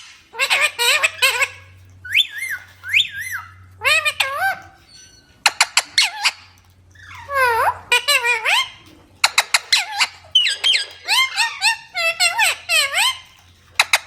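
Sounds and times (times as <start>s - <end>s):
parrot calling shrilly: 0.0s - 14.0s.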